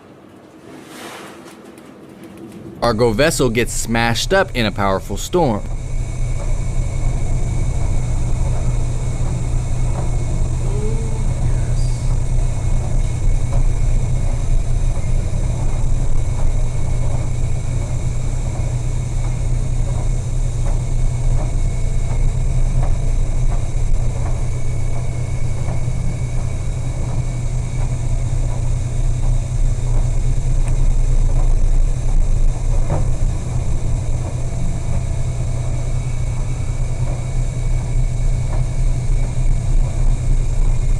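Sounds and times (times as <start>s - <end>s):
low rumble on ship: 0.0s - 40.9s.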